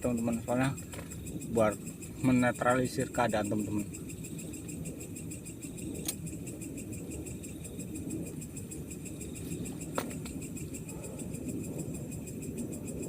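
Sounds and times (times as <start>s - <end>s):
crickets and insects trilling: 0.0s - 13.0s
low rumbling hiss: 0.0s - 13.0s.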